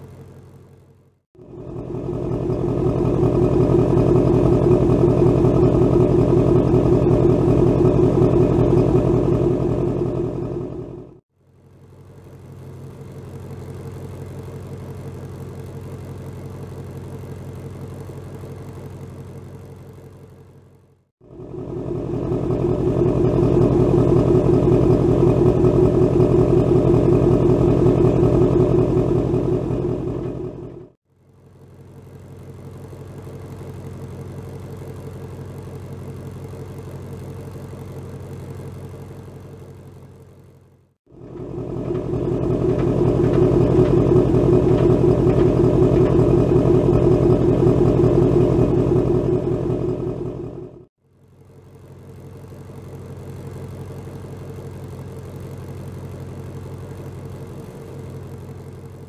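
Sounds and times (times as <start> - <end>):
vee eight engine idling: 0.0 - 11.2, 21.3 - 40.2, 41.1 - 59.0
louder vee eight engine idling: 0.0 - 20.4, 21.2 - 59.0.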